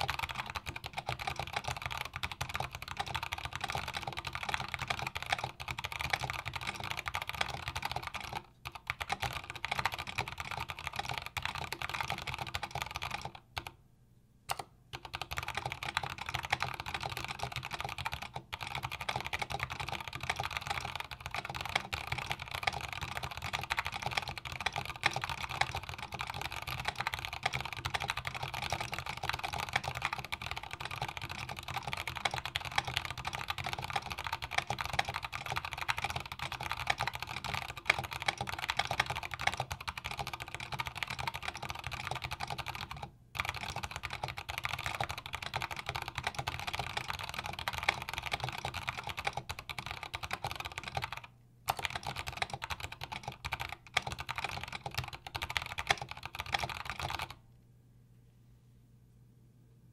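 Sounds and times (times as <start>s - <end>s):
mechanical keyboard typing: 0.0s - 13.8s, 14.5s - 57.4s.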